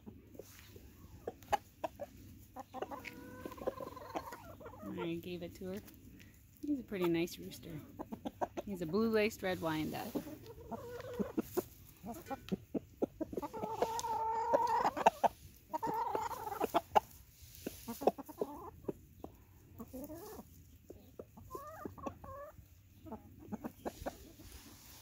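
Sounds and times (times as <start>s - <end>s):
chickens clucking and calling: 0.0s - 25.0s.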